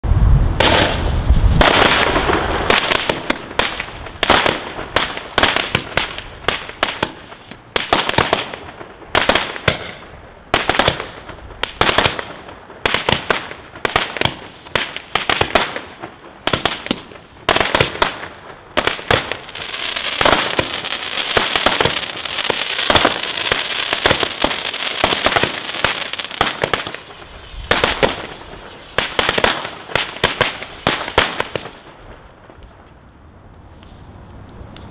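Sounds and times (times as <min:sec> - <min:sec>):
firework pops and crackle: 0:00.6 - 0:10.0, 0:10.6 - 0:32.8
firework shots sharp reports: 0:00.6 - 0:32.1.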